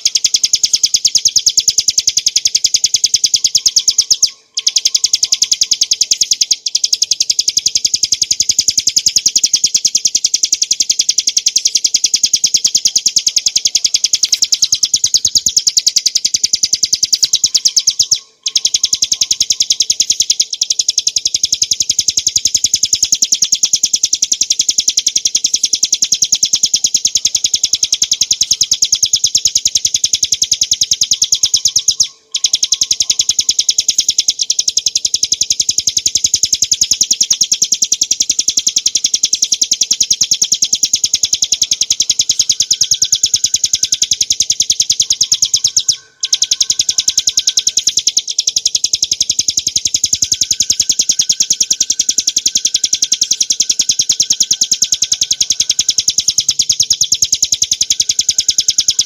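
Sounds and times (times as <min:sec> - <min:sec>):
bird rattling trill: 0:00.0 - 0:59.0.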